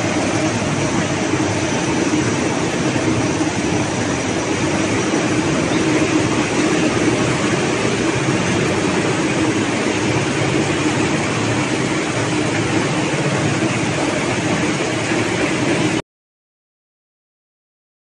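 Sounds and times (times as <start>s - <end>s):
cotton gin machinery running: 0.0s - 16.0s.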